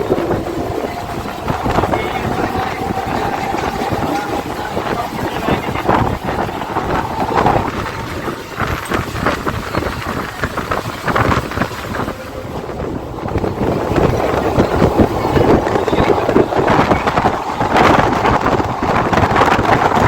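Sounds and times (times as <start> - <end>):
train running: 0.0 - 20.0
wind buffeting microphone: 0.0 - 20.0.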